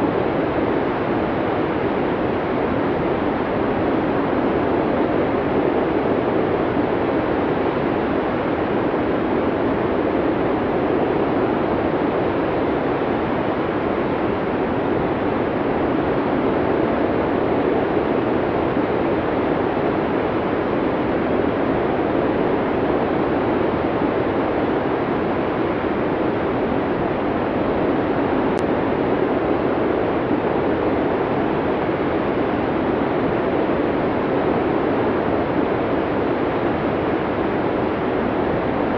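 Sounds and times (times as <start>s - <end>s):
snowstorm wind blowing: 0.0s - 38.9s.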